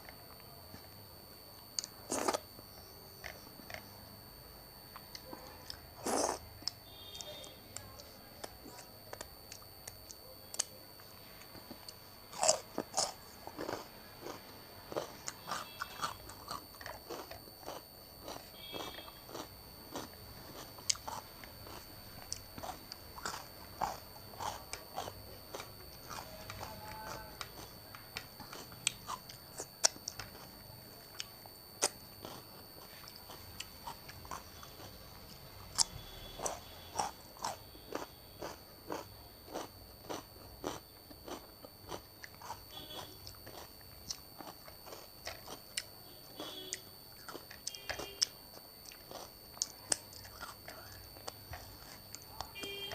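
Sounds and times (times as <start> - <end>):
chewing and crunching: 1.6 - 4.0, 4.9 - 52.9.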